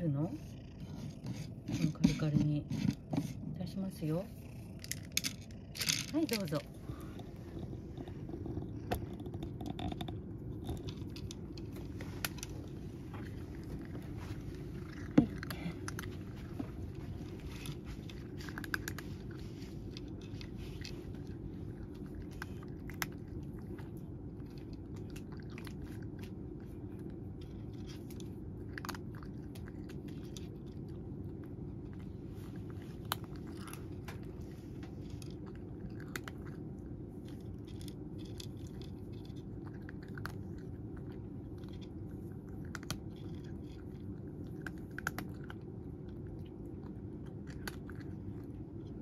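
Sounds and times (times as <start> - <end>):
cat crunching dry kibble: 0.0 - 49.0
low background hum: 0.0 - 49.0.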